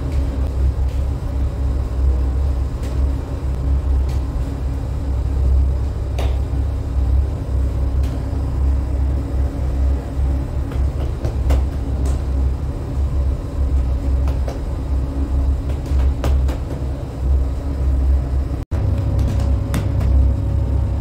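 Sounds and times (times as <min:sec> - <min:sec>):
machinery rumble and hum: 0:00.0 - 0:21.0.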